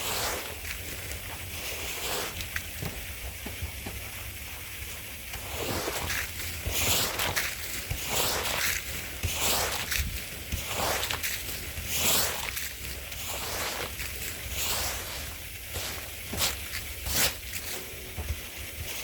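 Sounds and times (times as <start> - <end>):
brush scrubbing wet rug: 0.0 - 19.0.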